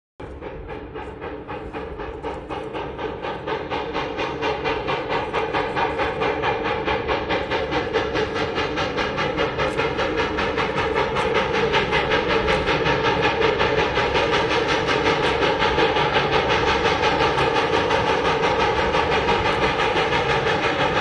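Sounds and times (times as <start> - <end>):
steam locomotive chuffing: 0.2 - 21.0.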